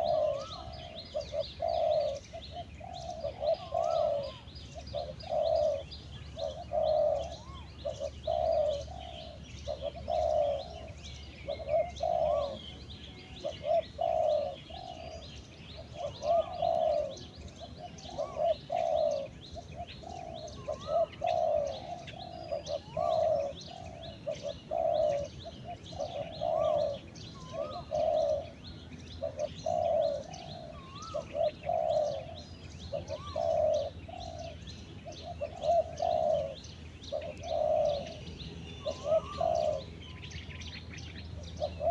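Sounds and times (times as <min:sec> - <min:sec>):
doves cooing: 0:00.0 - 0:41.9
faint small birds chirping: 0:00.0 - 0:41.9.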